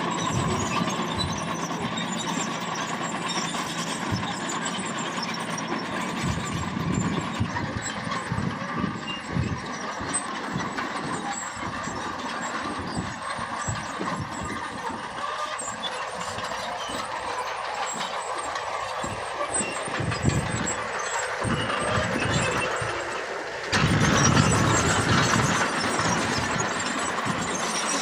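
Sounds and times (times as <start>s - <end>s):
diesel machinery engines rumbling: 0.0s - 28.0s.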